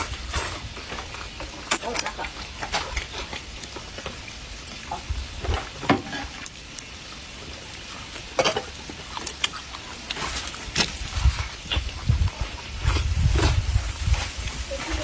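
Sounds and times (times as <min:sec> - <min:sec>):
eating clicks and wet smacks: 0:01.0 - 0:13.6.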